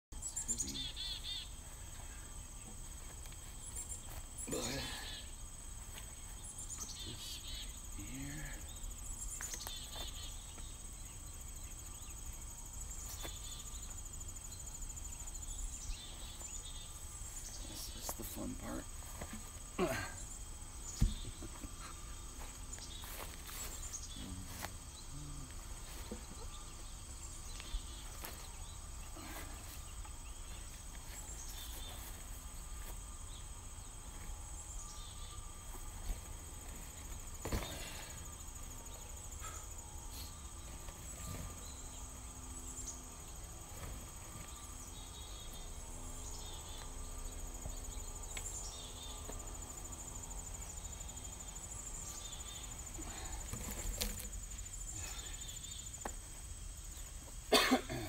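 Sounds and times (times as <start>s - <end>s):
insect trill: 0.2s - 58.0s.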